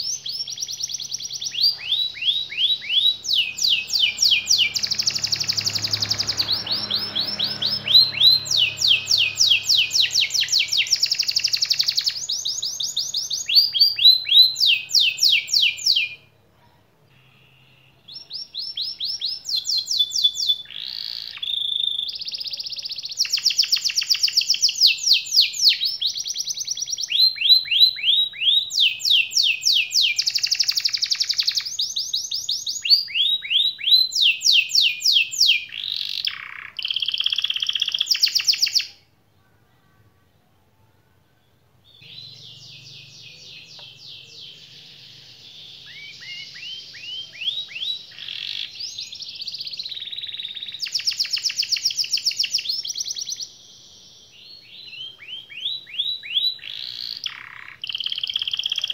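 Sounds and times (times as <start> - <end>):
canary singing: 0.0 - 16.5, 17.1 - 39.2, 41.2 - 58.9.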